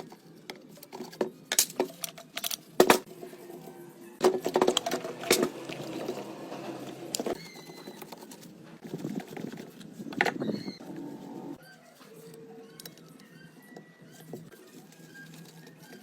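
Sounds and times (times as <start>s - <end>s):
scraping and rubbing handling noise: 0.0s - 16.0s.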